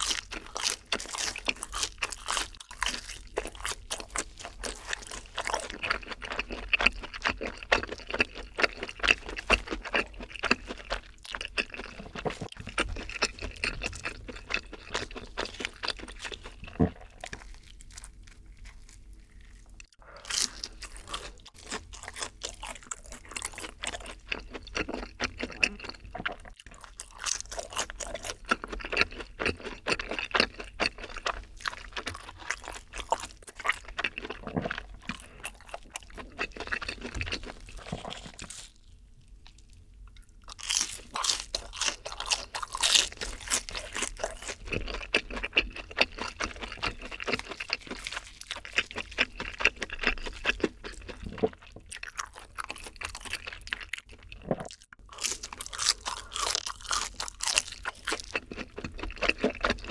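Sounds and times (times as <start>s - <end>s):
crunching fried cheese stick: 0.0s - 39.8s, 40.4s - 59.9s.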